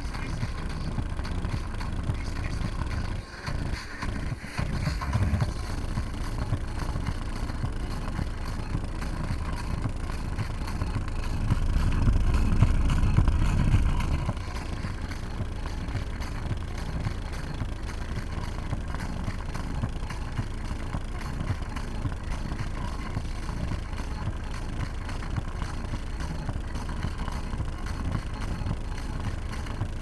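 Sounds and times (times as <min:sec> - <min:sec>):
subwoofer playing pulsing bass: 0:00.0 - 0:30.0.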